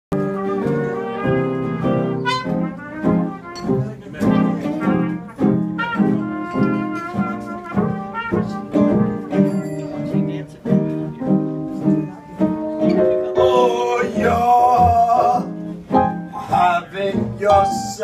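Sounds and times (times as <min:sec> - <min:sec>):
live jazz band playing: 0:00.1 - 0:18.0.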